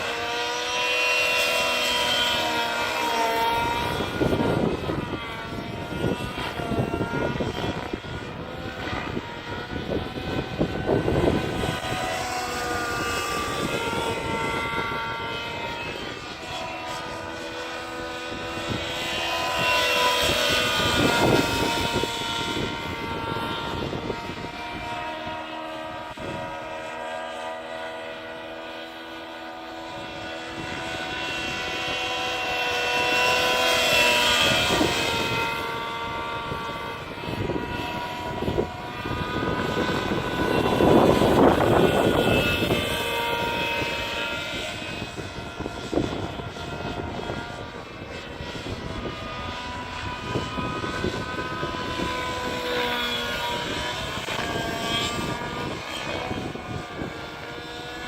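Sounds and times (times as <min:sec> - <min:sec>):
model helicopter engine whine: 0:00.0 - 0:58.0
rotor buzz: 0:00.0 - 0:58.0.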